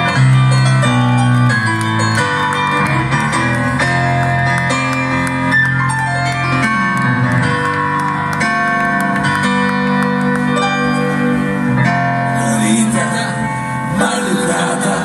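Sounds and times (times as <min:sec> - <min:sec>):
guitar: 0:00.0 - 0:15.0
keyboard chords: 0:00.0 - 0:15.0.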